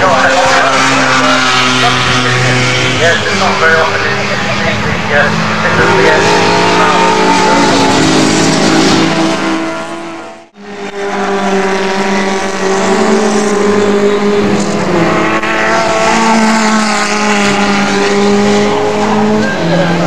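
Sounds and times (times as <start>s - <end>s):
racing car engines at high revs: 0.0s - 20.0s
single-seater racing car engine: 0.0s - 20.0s.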